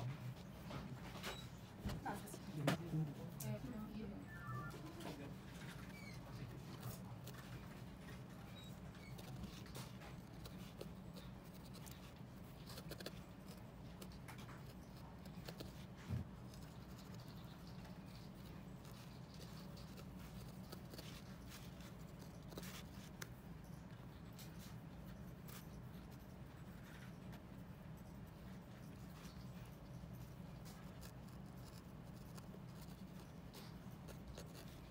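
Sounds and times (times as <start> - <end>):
felting needle ticks and scratches: 0.0 - 34.9
low steady hum: 0.0 - 34.9.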